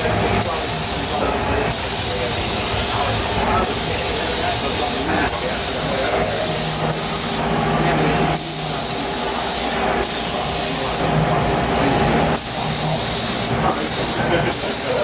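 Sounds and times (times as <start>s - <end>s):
paint spray gun hissing: 0.0s - 7.5s, 8.3s - 11.1s, 12.4s - 15.0s.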